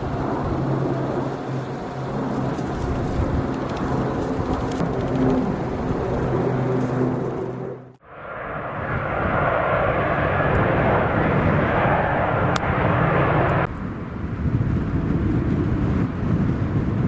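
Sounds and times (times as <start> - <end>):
airliner engine roar: 0.0 - 17.0
wind buffeting microphone: 0.0 - 17.0.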